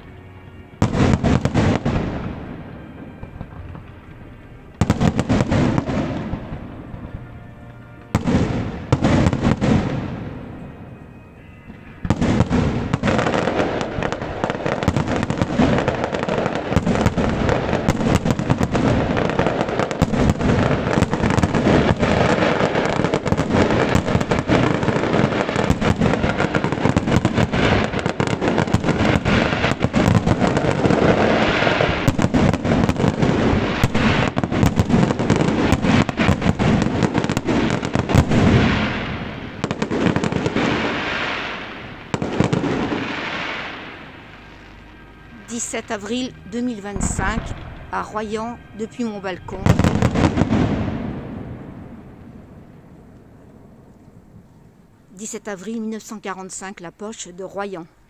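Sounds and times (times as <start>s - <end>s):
fireworks bursts and crackling: 0.0s - 54.5s.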